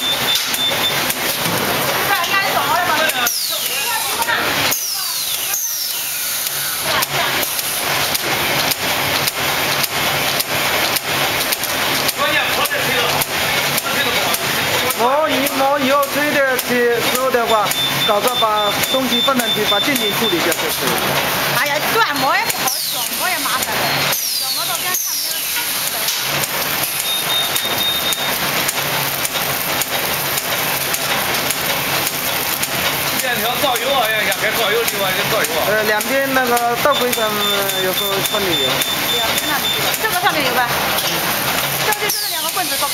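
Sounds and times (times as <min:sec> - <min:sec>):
machine clacking: 0:00.0 - 0:42.9
machine hiss: 0:00.0 - 0:42.9.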